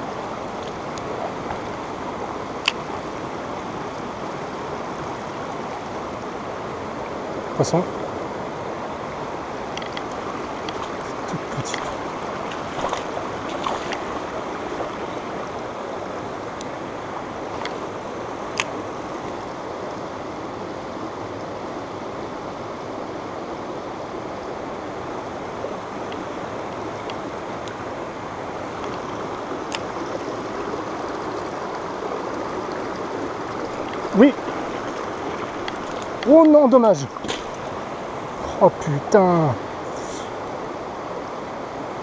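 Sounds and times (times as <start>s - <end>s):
stream running over stones: 0.0s - 42.0s.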